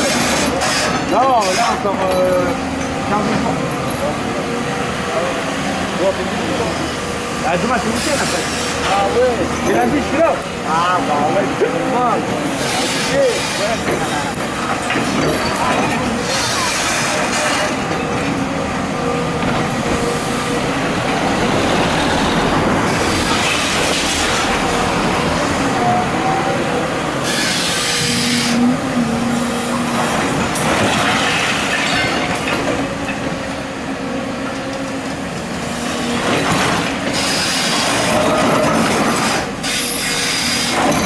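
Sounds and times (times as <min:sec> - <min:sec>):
excavator engine and steel din: 0:00.0 - 0:41.0.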